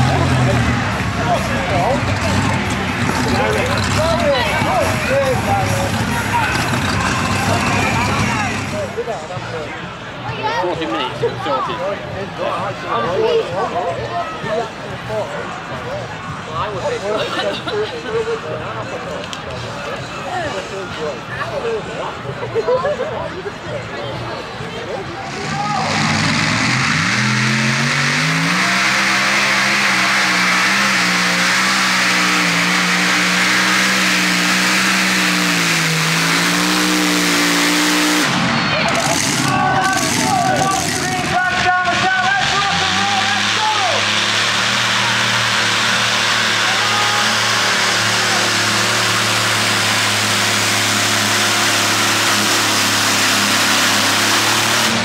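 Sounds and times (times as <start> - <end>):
tractor engine running hard: 0.0 - 55.0.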